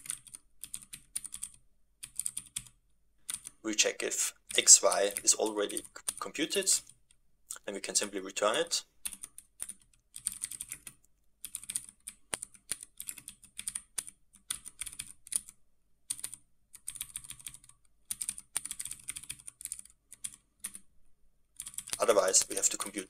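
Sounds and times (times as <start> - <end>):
keyboard typing: 0.0 - 7.0, 8.5 - 20.8, 21.6 - 23.0.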